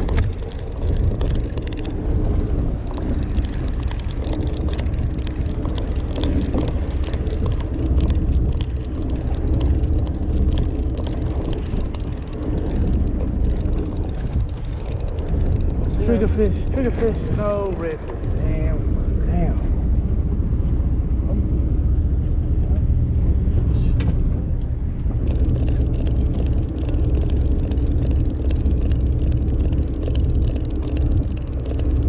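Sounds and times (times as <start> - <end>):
boat engine idling: 0.0 - 32.0
wind buffeting microphone: 0.0 - 32.0.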